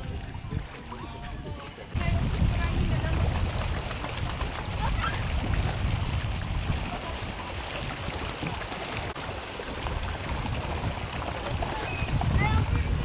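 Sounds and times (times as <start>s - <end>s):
paddle wheels splashing water: 0.0s - 13.0s.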